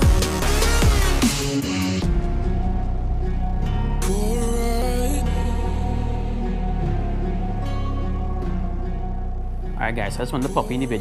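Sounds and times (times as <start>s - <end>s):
steady bass: 0.0s - 11.0s.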